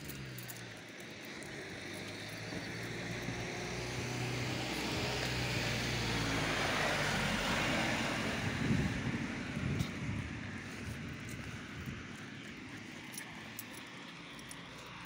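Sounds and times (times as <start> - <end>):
rushing noise of passing vehicle: 0.0 - 15.0
vehicle engine hum: 0.0 - 15.0.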